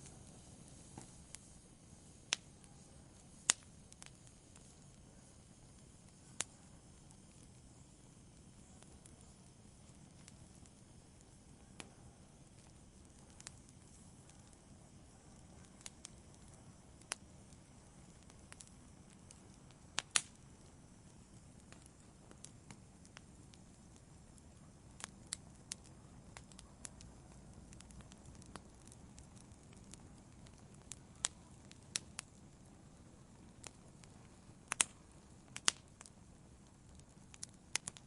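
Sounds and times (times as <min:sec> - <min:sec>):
fire crackling in fireplace: 0:00.0 - 0:38.0.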